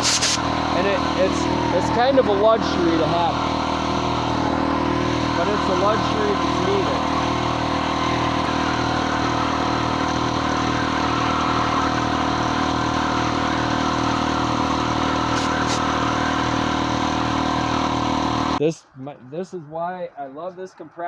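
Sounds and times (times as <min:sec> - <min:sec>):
air compressor running: 0:00.0 - 0:18.6.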